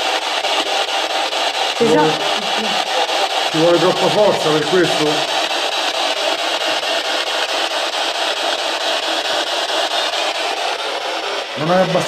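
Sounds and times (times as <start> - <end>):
radio scanner static fluttering: 0.0 - 12.0.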